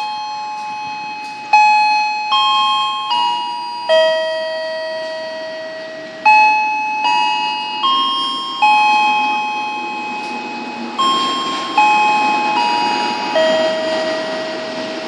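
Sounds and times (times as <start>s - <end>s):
loudspeaker chime melody: 0.0s - 15.0s.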